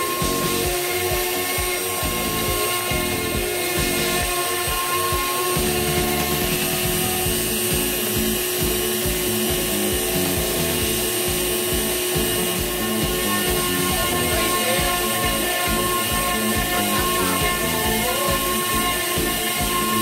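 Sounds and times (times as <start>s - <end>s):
rotary tool whining: 0.0s - 20.0s
stepper motors shifting pitch: 0.0s - 20.0s.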